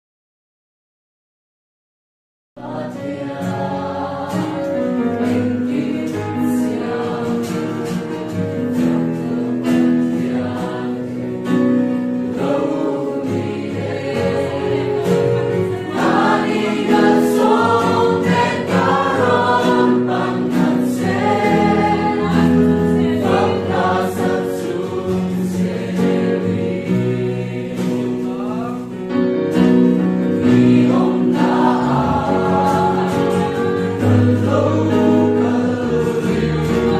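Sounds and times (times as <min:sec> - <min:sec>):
choir singing gospel song: 0:02.6 - 0:36.9.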